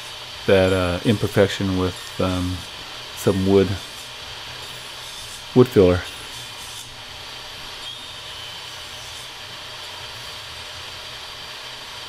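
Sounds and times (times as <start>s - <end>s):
faint high whine: 0.0s - 12.0s
steady mechanical whirr: 0.0s - 12.0s.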